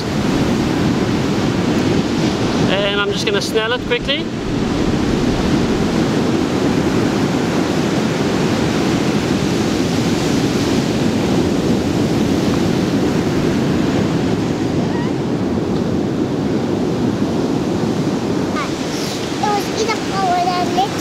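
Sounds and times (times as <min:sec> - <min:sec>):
ocean waves breaking: 0:00.0 - 0:21.0
wind on microphone: 0:00.0 - 0:21.0.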